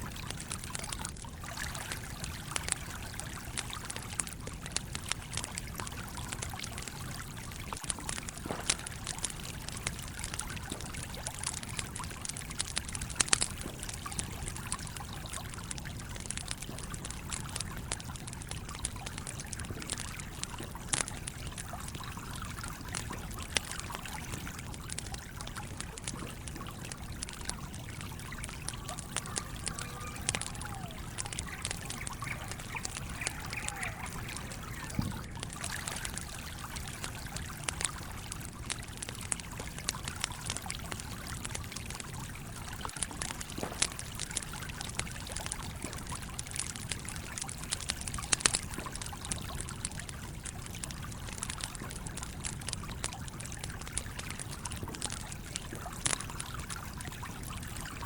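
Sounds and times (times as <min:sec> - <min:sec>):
stream flowing: 0:00.0 - 0:52.7
campfire crackling: 0:00.0 - 0:58.0.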